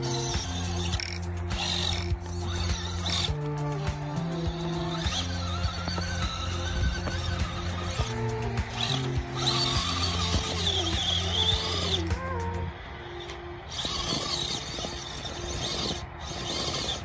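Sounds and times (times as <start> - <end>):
background music: 0.0 - 17.0
electric motor and gears whining: 0.0 - 17.0.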